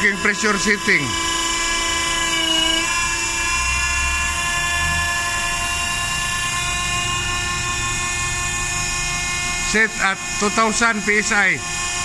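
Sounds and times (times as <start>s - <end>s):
hydraulic pump motor whining: 0.0s - 12.0s.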